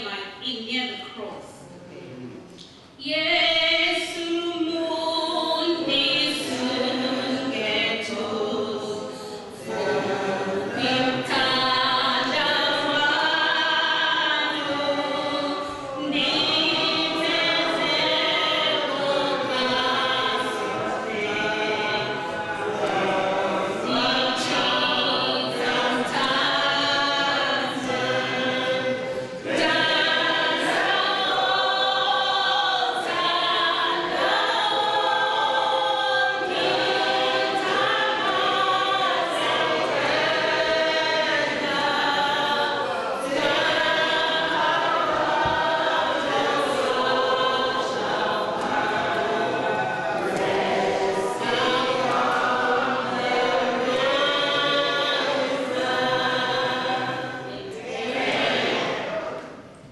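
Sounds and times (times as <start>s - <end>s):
choir singing: 3.1s - 59.9s.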